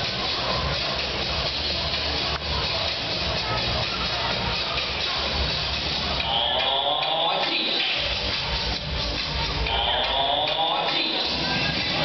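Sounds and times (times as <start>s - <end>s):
distorted music over speakers: 0.0s - 12.0s.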